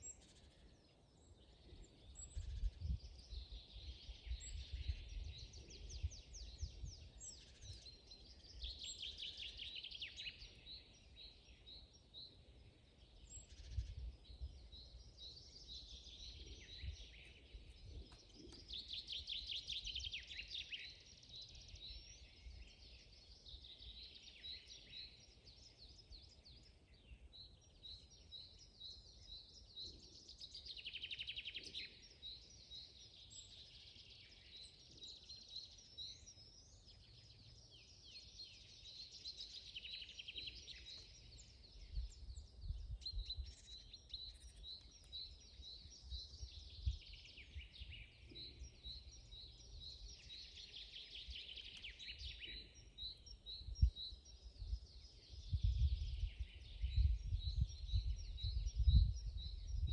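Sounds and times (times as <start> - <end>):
wild birds singing: 0.0 - 59.9.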